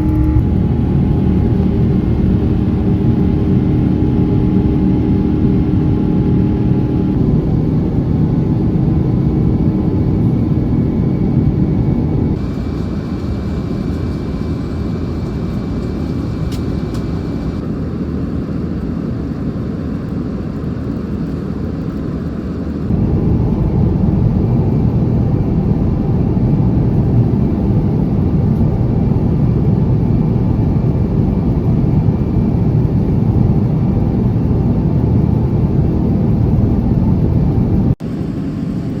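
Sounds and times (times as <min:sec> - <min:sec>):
jet engine rumble in cabin: 0:00.0 - 0:39.0.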